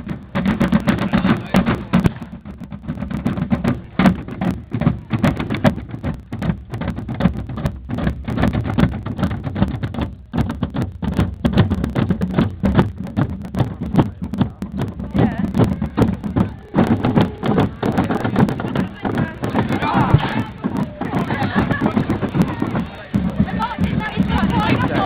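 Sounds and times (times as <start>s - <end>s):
drums and percussion strikes: 0.0s - 25.0s
marching band playing: 0.0s - 25.0s.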